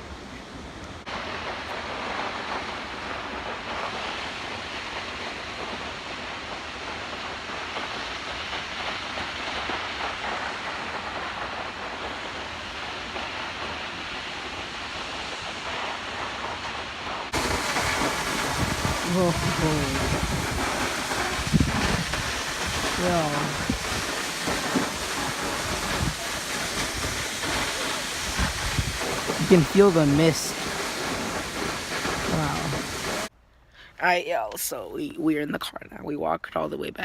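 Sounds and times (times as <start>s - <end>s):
waterfall rushing: 0.0s - 33.3s.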